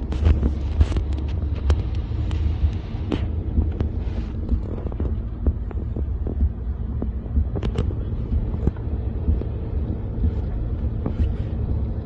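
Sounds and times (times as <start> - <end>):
raindrops ticking on car: 0.0 - 12.0
road and engine rumble: 0.0 - 12.0.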